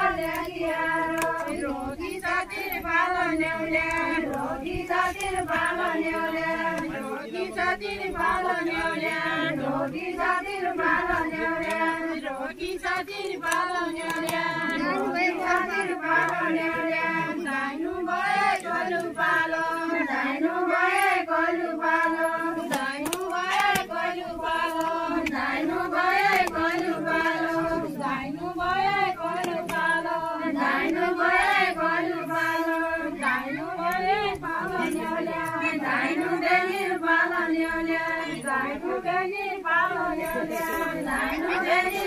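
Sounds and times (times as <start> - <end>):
women singing unaccompanied: 0.0 - 42.0.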